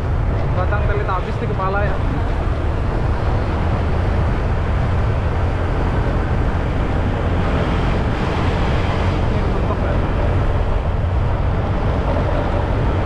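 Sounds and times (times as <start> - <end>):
motorcycle rumble: 0.0 - 13.0
wind rush: 0.0 - 13.0.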